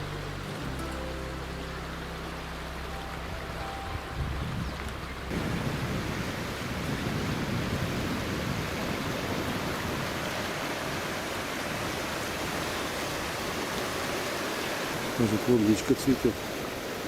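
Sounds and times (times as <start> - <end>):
fast-flowing stream rushing: 0.0 - 17.0.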